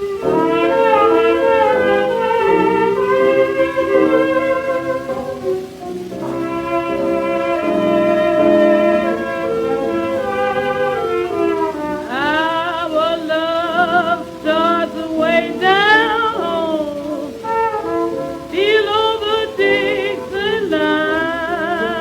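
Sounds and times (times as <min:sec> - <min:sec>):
horn melody with vibrato: 0:00.0 - 0:22.0
old jazz band recording: 0:00.0 - 0:22.0.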